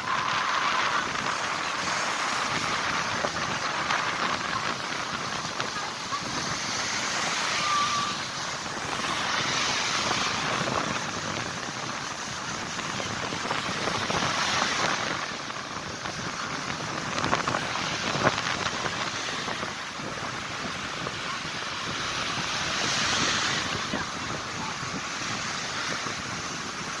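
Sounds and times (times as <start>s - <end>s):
sea waves breaking: 0.0s - 27.0s
wind on microphone: 0.0s - 27.0s.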